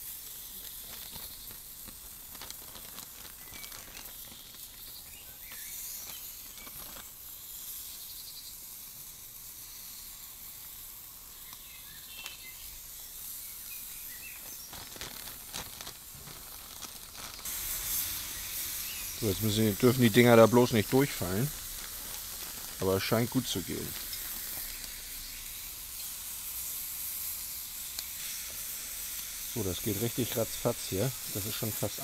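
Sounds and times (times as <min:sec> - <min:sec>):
meat sizzling on a hot grill: 0:00.0 - 0:32.0.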